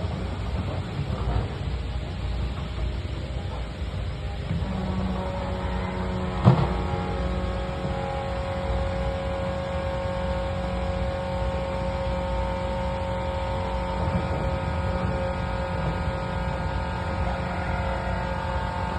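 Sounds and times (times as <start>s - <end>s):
diesel digger engine running: 0.0s - 18.9s.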